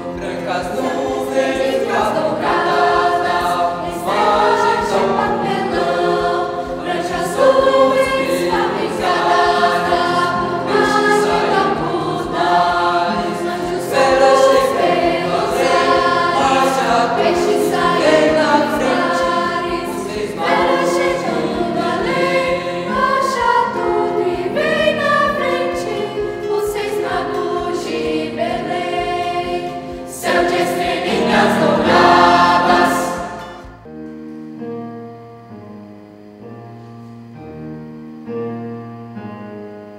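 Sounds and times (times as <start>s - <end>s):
youth choir singing: 0.0s - 33.9s.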